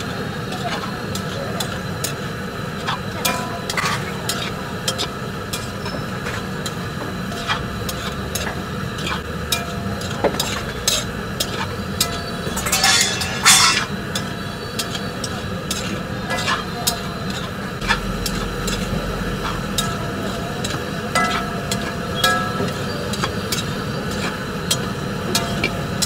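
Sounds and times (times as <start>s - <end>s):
frying sizzle: 0.0s - 26.0s
spatula scraping metal pan: 0.4s - 25.7s.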